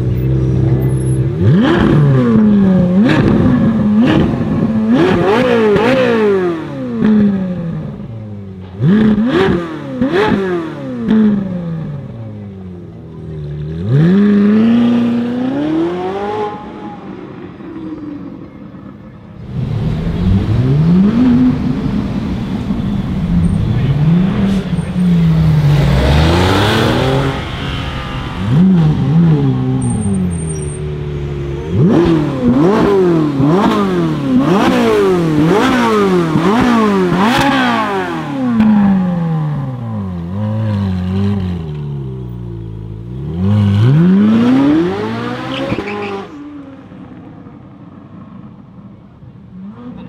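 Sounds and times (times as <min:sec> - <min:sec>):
sports car engine revving: 0:00.0 - 0:17.0, 0:19.4 - 0:48.4.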